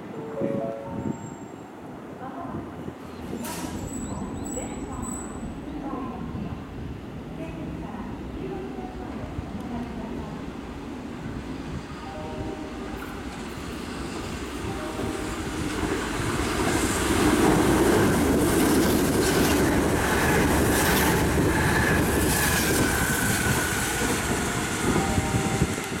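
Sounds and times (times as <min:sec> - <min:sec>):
train passing with wheel clatter: 0:00.0 - 0:26.0.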